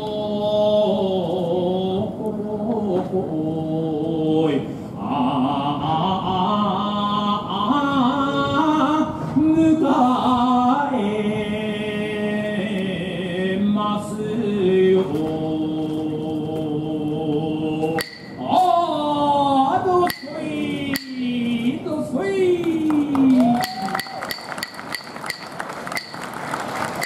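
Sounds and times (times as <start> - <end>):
man singing slow song: 0.0 - 21.9.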